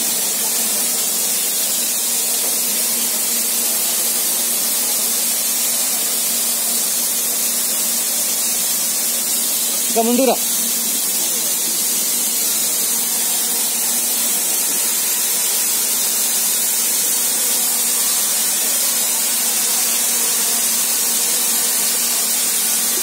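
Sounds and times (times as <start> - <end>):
loud hiss under train: 0.0 - 23.0.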